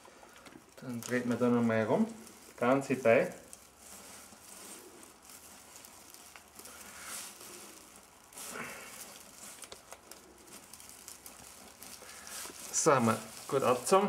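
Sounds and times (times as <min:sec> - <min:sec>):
fir branches rustling: 0:00.0 - 0:14.0.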